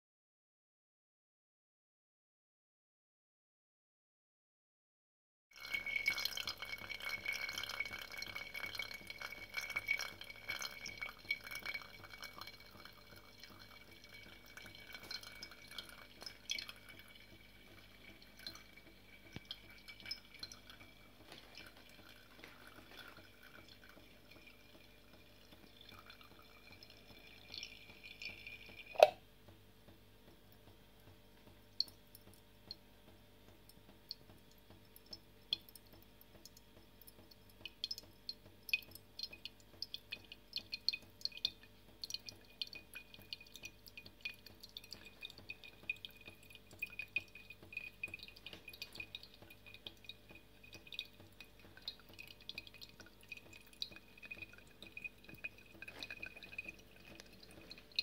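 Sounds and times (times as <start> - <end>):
liquid dripping into glass jars: 5.6 - 58.0.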